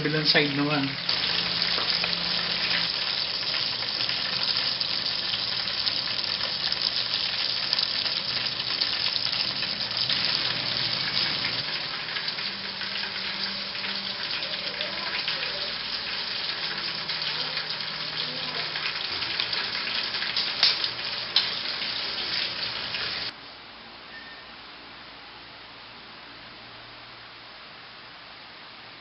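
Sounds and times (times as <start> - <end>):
chicken deep-frying in oil: 0.0 - 23.4.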